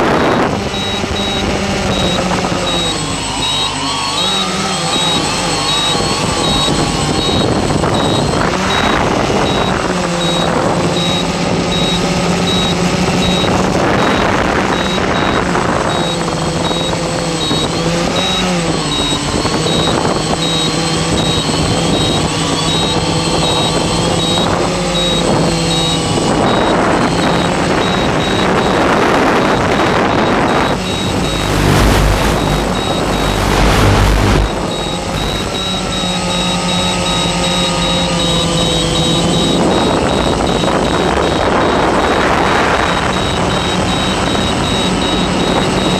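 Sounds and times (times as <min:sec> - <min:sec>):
drone motors and propellers whining: 0:00.0 - 0:45.9
pulsing high-pitched tone: 0:00.0 - 0:45.9.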